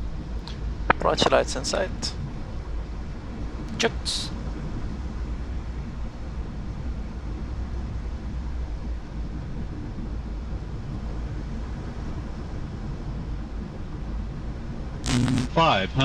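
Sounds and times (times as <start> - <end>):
airflow and engine noise: 0.0 - 16.0
deep constant rumble: 0.0 - 16.0.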